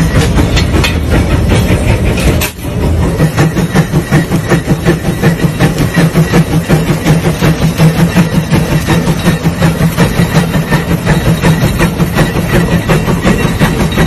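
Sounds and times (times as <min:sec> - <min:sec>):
steam engine chuffing: 0:00.0 - 0:14.0.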